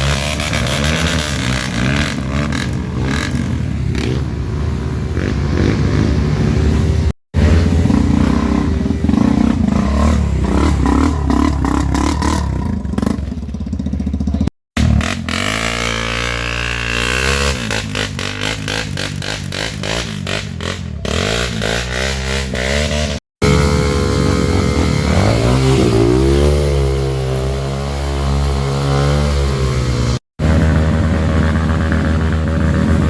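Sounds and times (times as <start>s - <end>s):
motorcycles revving through mud: 0.0s - 33.0s.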